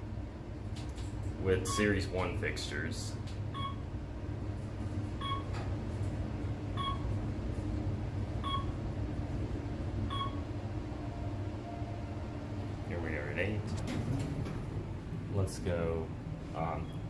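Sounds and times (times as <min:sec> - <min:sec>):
elevator low hum: 0:00.0 - 0:17.0.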